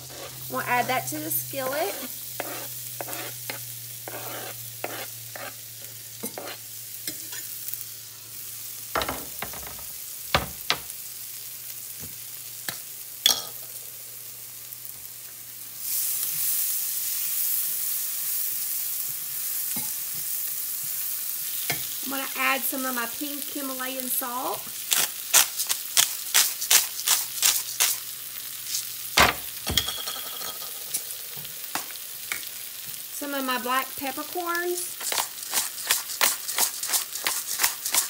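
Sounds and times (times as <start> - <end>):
vegetables sizzling in butter: 0.0 - 38.0.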